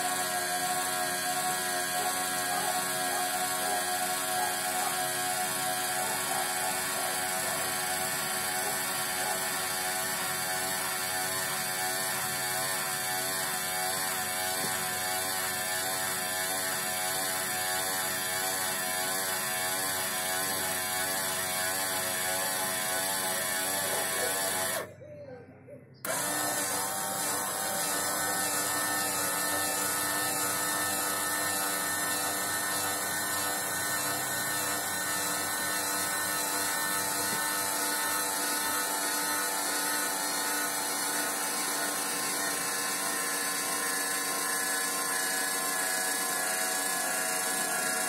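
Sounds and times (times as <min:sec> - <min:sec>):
geared electric motor whining: 0:00.0 - 0:25.0, 0:26.0 - 0:48.0.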